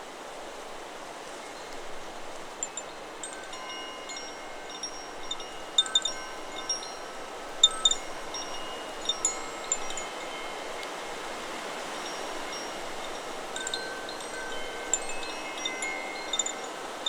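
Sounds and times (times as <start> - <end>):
wind and rustling leaves: 0.0 - 17.0
wind chime ringing: 2.6 - 17.0.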